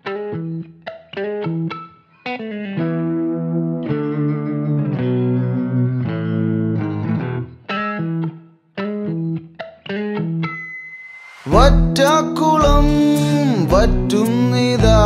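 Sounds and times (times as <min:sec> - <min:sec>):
guitar with effects: 0:00.0 - 0:15.0.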